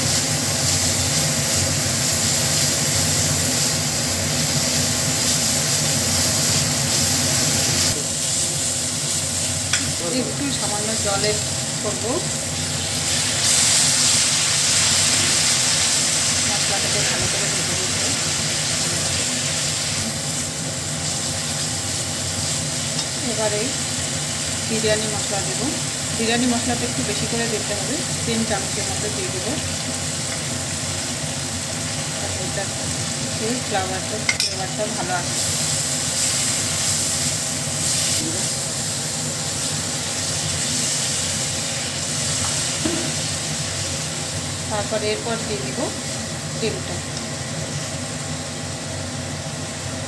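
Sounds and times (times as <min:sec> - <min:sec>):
paste sizzling in oil: 0:00.0 - 0:48.9.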